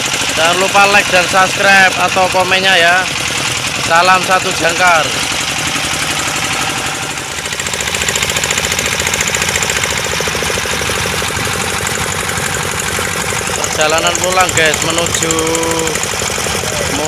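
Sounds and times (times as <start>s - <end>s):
boat engine knocking: 0.0s - 17.0s.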